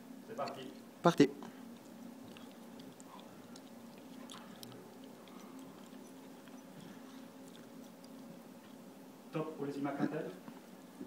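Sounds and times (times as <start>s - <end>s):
hum of running computers: 0.0s - 11.0s.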